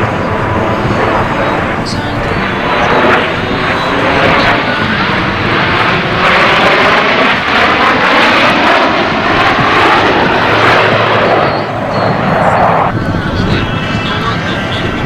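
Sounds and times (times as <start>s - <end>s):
jet aircraft passing: 0.0s - 15.0s.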